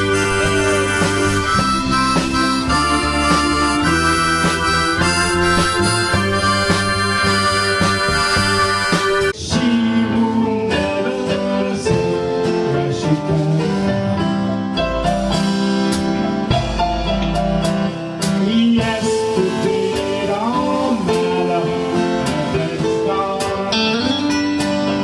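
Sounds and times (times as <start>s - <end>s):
person singing: 0.0s - 14.5s, 18.2s - 25.0s
drums: 0.0s - 25.0s
electric guitar: 0.0s - 25.0s.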